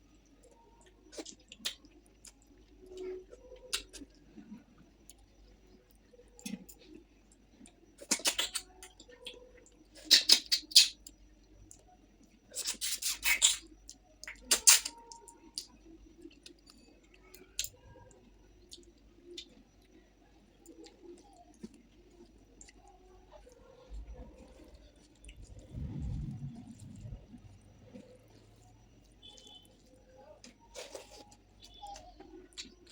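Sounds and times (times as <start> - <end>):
faint chewing: 0.2 - 32.9
crackly crunching: 0.4 - 32.9.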